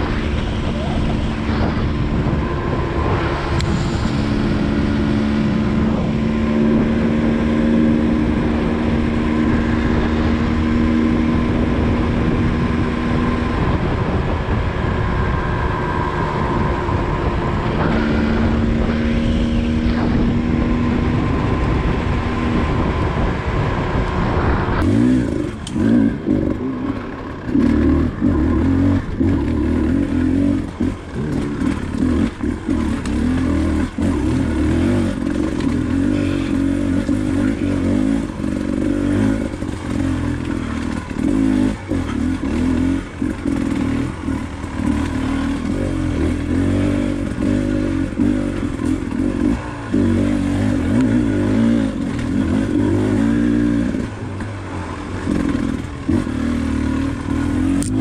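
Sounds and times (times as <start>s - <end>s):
dirt bike engine revving: 0.0s - 14.6s, 15.2s - 58.0s.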